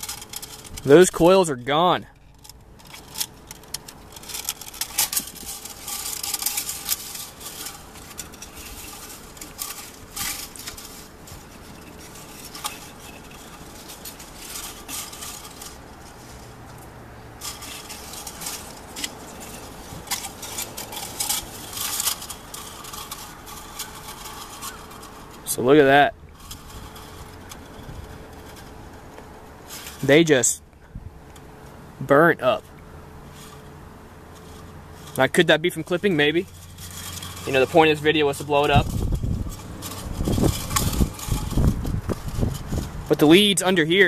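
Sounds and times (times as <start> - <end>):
hands rustling speaker parts: 0.0 - 44.0.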